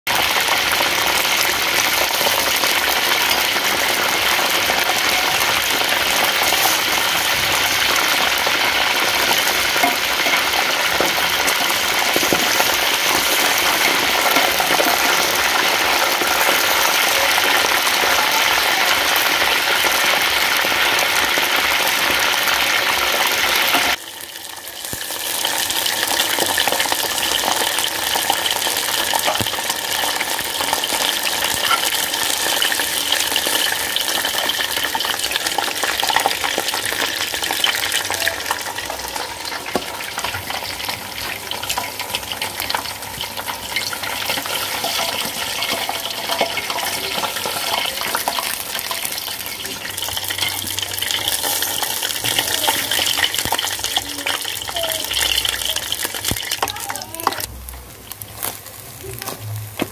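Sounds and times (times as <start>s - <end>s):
chicken deep-frying in oil: 0.0s - 59.9s.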